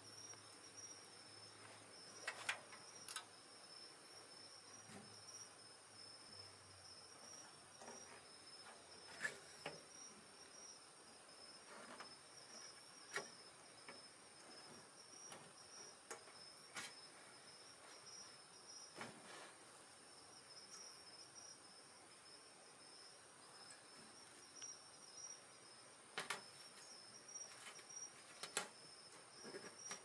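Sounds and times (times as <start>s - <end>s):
night insects chorus: 0.0s - 30.0s.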